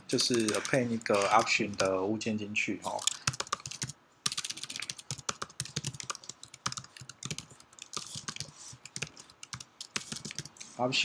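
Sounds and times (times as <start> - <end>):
keyboard typing clicks: 0.1 - 1.9, 3.0 - 10.7.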